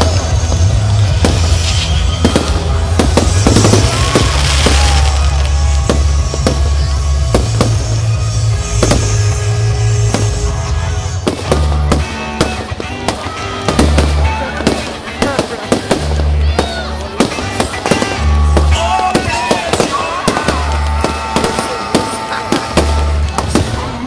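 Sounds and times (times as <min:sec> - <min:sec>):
fireworks bangs and crackles: 0:00.0 - 0:24.0
fireworks whistles: 0:00.0 - 0:24.0
loud music with heavy bass: 0:00.0 - 0:24.0.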